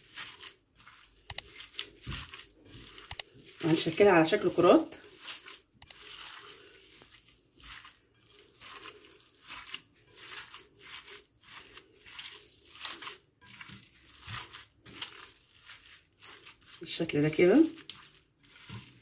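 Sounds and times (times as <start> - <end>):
hand squishing raw minced meat: 0.0 - 19.0.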